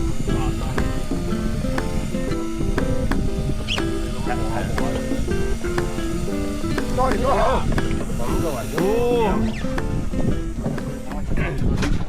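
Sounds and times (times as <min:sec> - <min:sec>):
instrumental music with plucked notes: 0:00.0 - 0:12.0.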